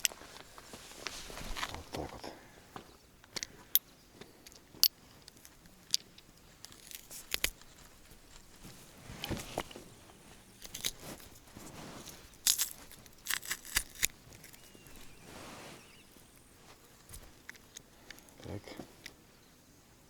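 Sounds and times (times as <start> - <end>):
crackling rustles: 0.0 - 2.2, 4.3 - 19.3.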